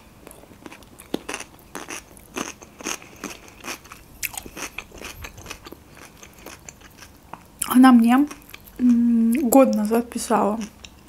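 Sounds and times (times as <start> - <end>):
chewing crisp salad: 0.2 - 11.0.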